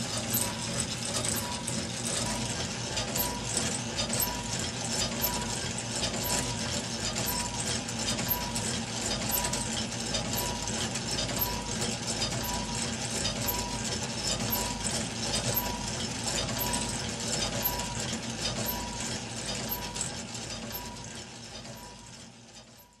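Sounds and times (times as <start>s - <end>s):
short repeating squeak: 0.1s - 23.0s.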